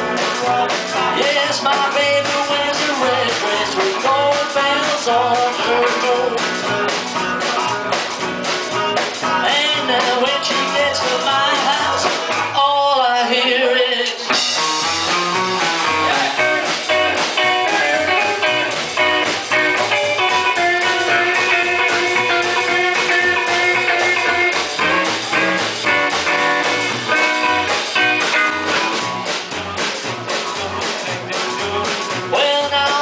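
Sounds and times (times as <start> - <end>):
blues-rock band playing: 0.0 - 33.0
lead guitar: 0.0 - 33.0.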